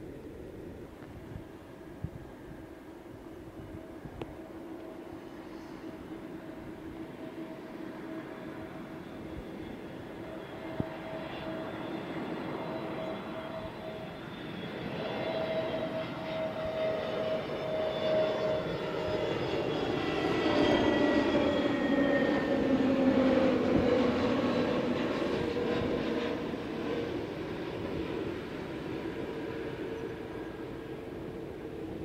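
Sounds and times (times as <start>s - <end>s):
jet airliner engine whine: 0.0s - 32.0s.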